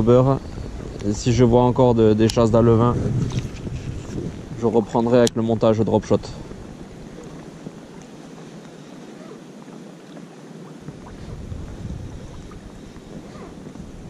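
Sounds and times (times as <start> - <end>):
choppy lake water: 0.0 - 14.0
wind buffeting microphone: 0.0 - 14.0.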